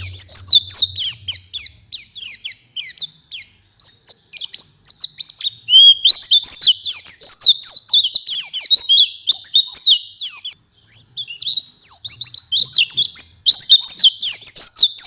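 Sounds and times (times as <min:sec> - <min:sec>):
bird singing high chirps: 0:00.0 - 0:15.0.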